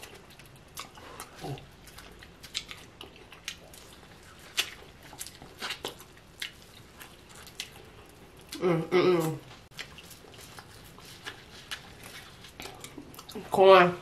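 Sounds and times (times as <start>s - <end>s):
wet chewing: 0.0s - 13.6s.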